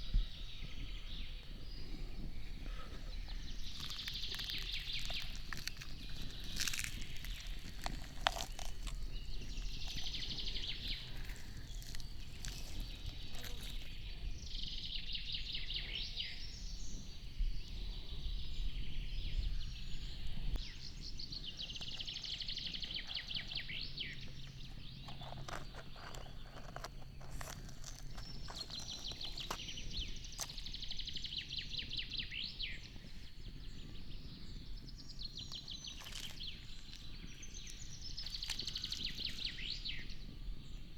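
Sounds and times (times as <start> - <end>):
songbird trilling: 0.0 - 40.8.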